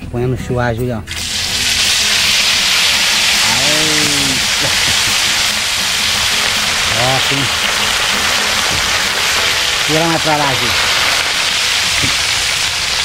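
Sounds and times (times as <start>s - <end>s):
fish sizzling in hot oil: 1.1s - 13.0s.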